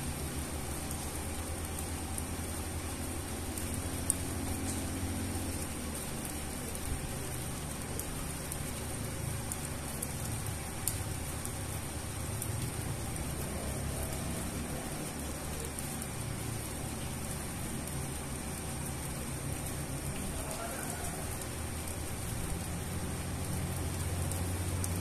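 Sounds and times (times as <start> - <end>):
rain on concrete pavement: 0.0 - 25.0.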